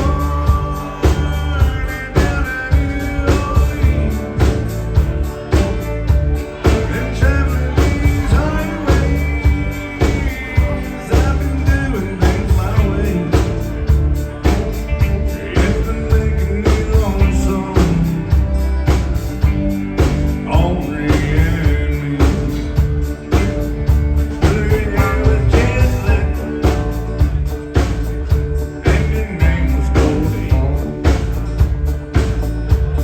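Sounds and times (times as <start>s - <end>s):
country rock band playing: 0.0s - 33.0s
drums beating: 0.0s - 33.0s.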